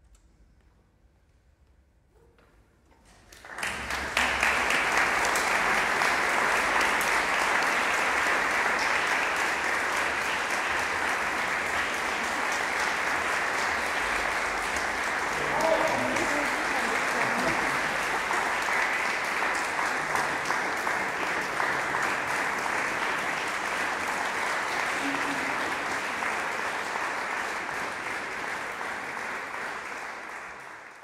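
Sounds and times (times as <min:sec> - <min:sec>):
audience applause: 0:03.1 - 0:31.0.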